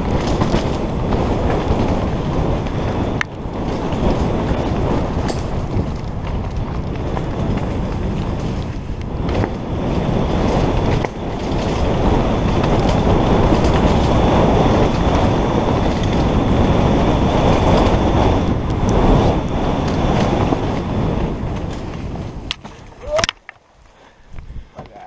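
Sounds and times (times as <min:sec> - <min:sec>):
bike rattling over rough trail: 0:00.0 - 0:24.8
wind rushing over microphone: 0:00.0 - 0:25.0.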